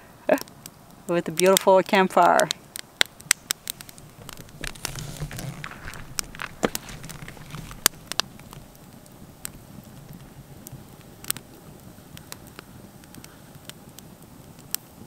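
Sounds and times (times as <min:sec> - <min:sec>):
campfire crackling and popping: 0:00.0 - 0:15.0
faint hiss: 0:00.0 - 0:15.0.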